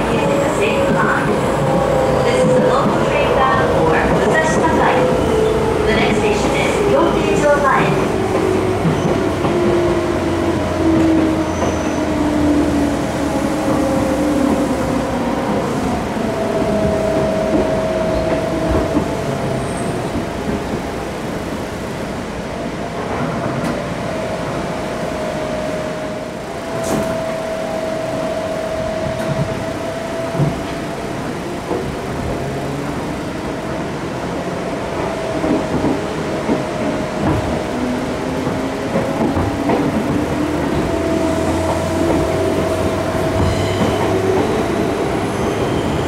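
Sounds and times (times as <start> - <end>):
rail and wheel noise: 0.0 - 46.0.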